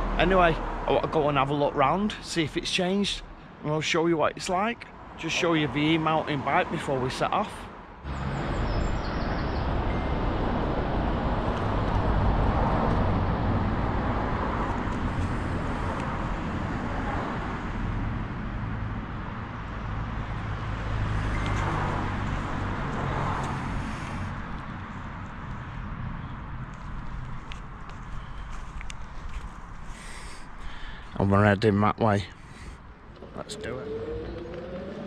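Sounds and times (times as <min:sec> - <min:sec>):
road traffic with engine hum: 0:00.0 - 0:35.0.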